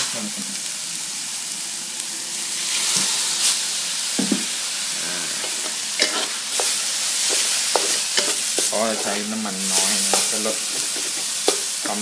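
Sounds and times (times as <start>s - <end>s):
water hissing in hot pan: 0.0s - 12.0s.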